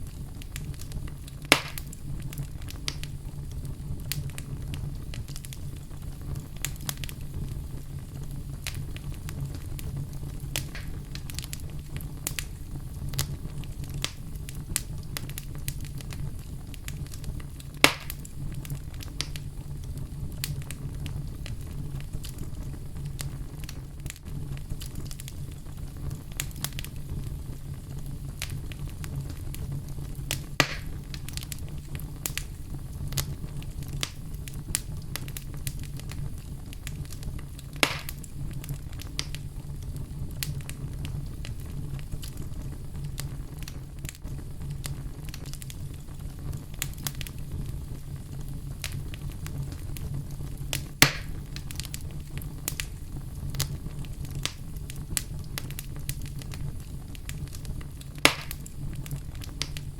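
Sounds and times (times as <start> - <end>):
wood fire burning: 0.0 - 59.9.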